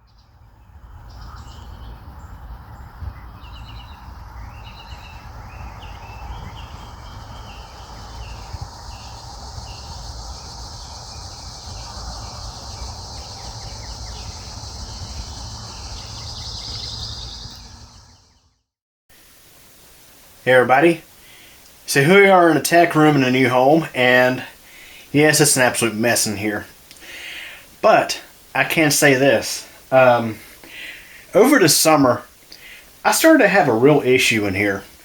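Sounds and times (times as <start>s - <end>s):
insect drone: 0.0s - 18.4s, 19.2s - 31.3s
birds chirping: 0.0s - 18.6s, 19.4s - 35.0s.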